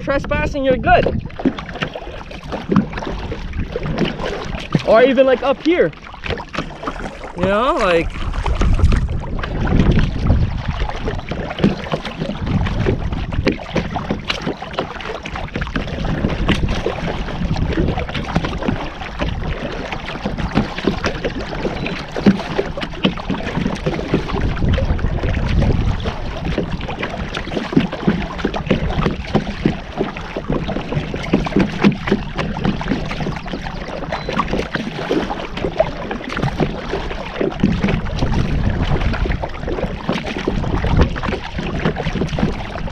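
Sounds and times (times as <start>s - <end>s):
paddle water splashing and dripping: 0.0s - 42.9s
wind rumbling on microphone: 0.0s - 42.9s.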